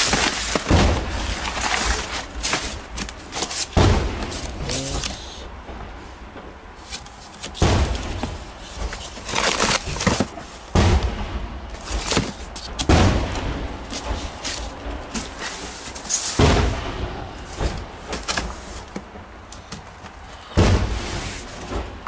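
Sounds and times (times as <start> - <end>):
heavy bangs: 0.0 - 6.8, 7.5 - 19.5, 20.5 - 22.0
rustling noise: 0.0 - 22.0.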